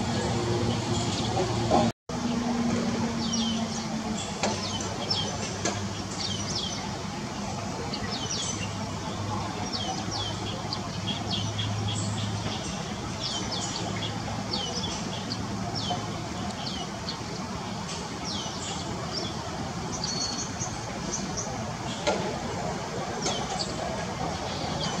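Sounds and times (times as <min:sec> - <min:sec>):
small birds chirping: 0:03.2 - 0:22.3, 0:23.0 - 0:25.0.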